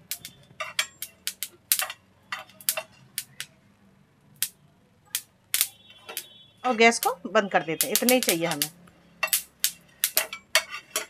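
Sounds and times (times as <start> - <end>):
seeds popping in a frying pan: 0.0 - 11.0.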